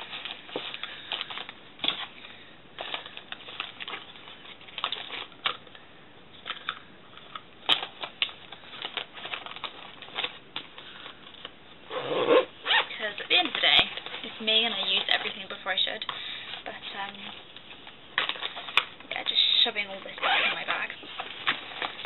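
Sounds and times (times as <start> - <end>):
packaged toiletries rustling: 0.0 - 5.8, 6.4 - 11.6, 13.0 - 19.7, 20.4 - 22.0.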